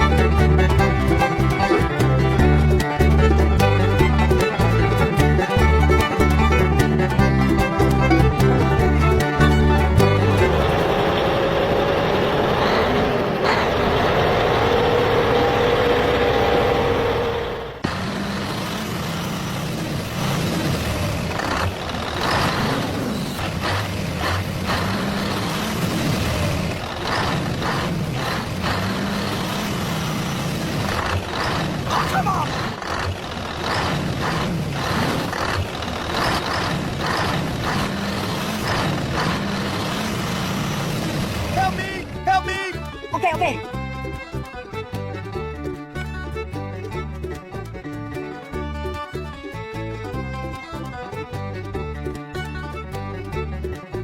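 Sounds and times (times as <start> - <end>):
truck engine whining: 0.0 - 54.0.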